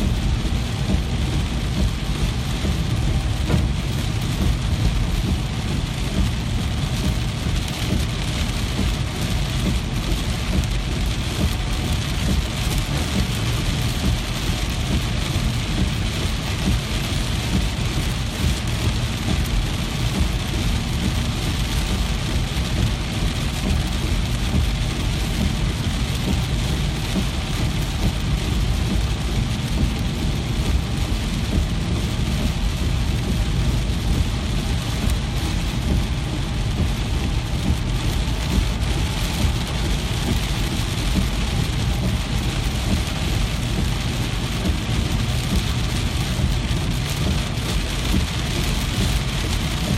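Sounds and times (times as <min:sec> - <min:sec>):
low rumble: 0:00.0 - 0:49.9
steady rain falling: 0:00.0 - 0:49.9.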